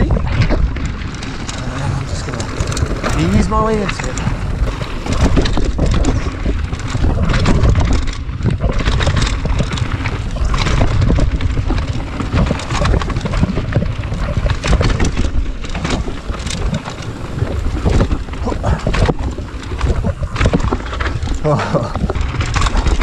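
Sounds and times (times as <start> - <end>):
bike clattering over bumps: 0.0 - 23.0
tyres crunching over stones: 0.0 - 23.0
wind buffeting microphone: 0.0 - 23.0.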